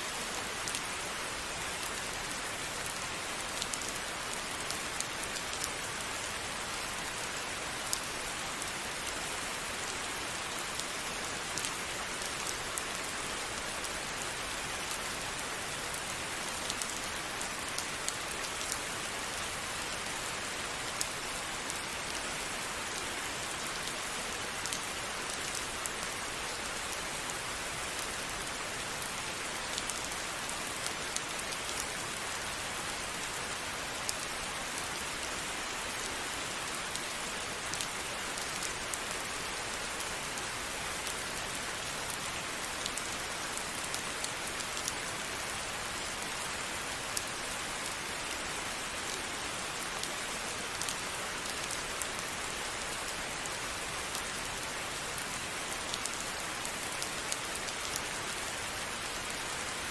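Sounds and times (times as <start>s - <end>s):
steady rain hiss: 0.0s - 59.9s
raindrops ticking on a surface: 0.2s - 59.4s.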